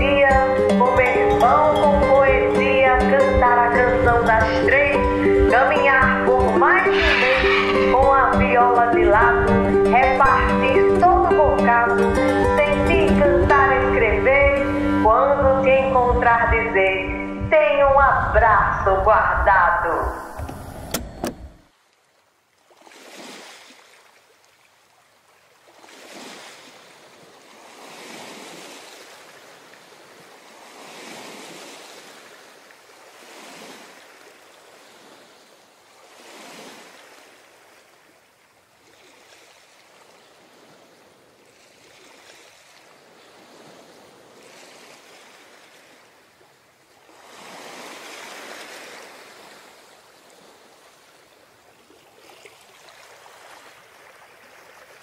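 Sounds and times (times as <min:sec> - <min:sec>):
waves washing in: 0:00.6 - 0:21.8, 0:22.7 - 0:24.2, 0:25.2 - 0:55.0.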